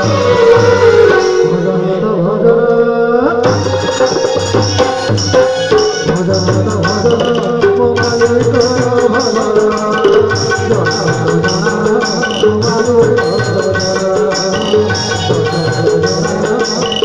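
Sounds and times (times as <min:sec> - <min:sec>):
hand drums: 0:00.0 - 0:01.8, 0:03.4 - 0:17.0
keyboard and harmonium melody: 0:00.0 - 0:17.0.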